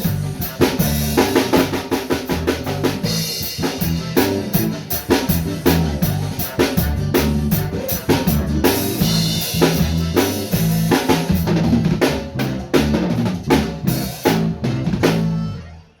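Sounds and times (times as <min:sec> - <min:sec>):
drum kit hits: 0:00.0 - 0:15.4
bass guitar: 0:00.0 - 0:16.0.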